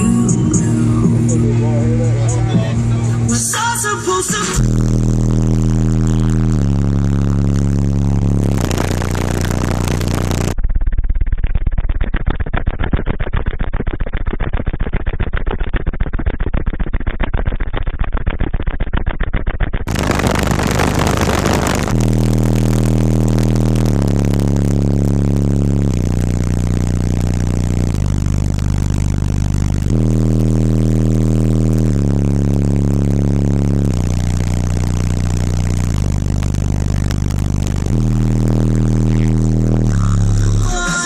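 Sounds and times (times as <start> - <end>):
bass-heavy music through subwoofers: 0.0 - 41.0.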